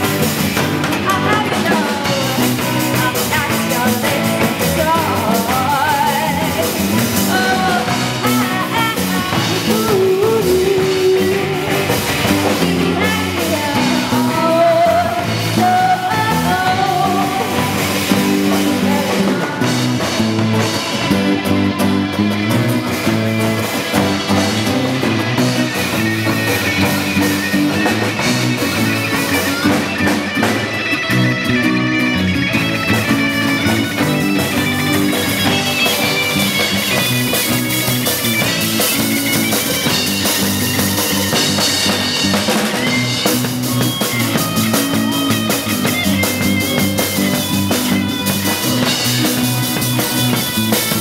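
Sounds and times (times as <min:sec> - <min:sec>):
bass guitar: 0:00.0 - 0:51.0
drum kit steady beat: 0:00.0 - 0:51.0
strummed guitar: 0:00.0 - 0:51.0.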